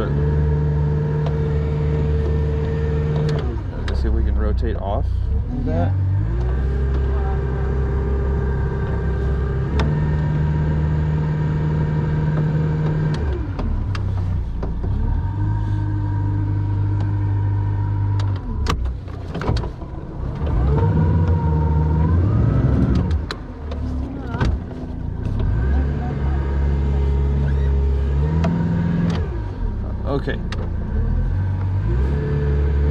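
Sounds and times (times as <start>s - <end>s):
boat motor revving: 0.0s - 32.9s.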